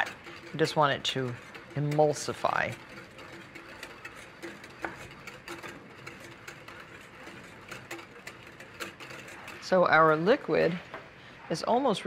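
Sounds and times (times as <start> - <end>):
whisk clicking against glass bowl: 0.0 - 10.1.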